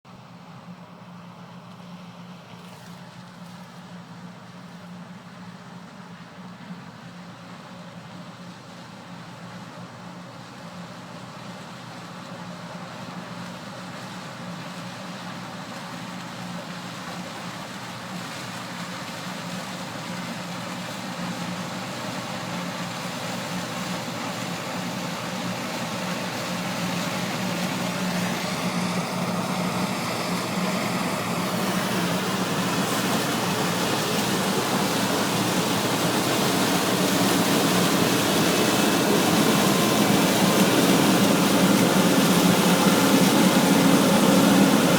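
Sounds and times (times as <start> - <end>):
combine harvester drone: 0.1 - 44.9.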